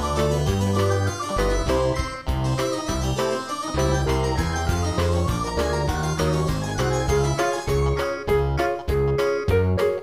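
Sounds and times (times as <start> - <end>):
keyboard tune with short notes: 0.0 - 10.0.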